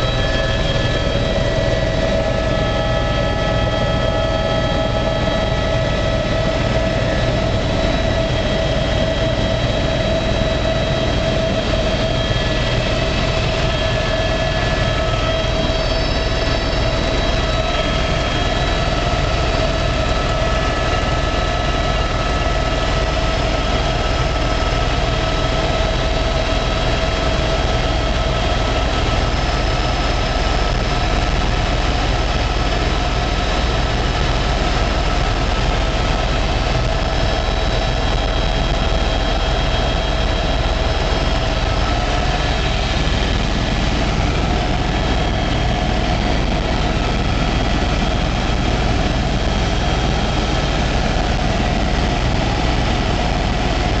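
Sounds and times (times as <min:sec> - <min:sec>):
deep rotor drone: 0:00.0 - 0:54.0
helicopter turbine whine: 0:00.0 - 0:54.0.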